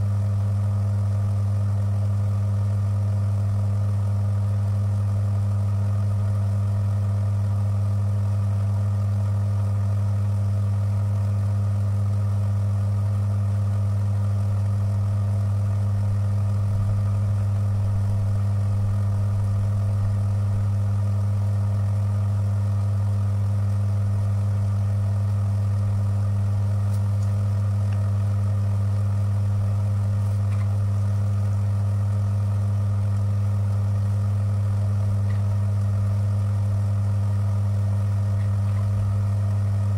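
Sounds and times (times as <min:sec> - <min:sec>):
electric motor humming: 0:00.0 - 0:39.9.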